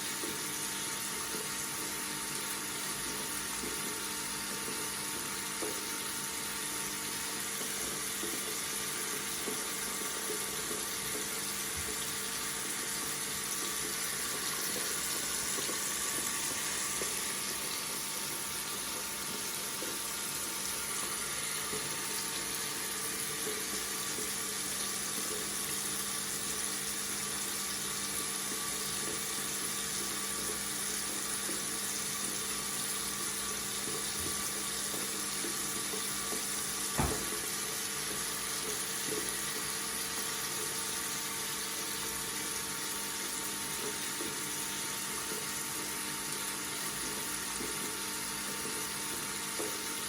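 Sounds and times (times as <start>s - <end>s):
water running from a faucet: 0.0s - 50.0s.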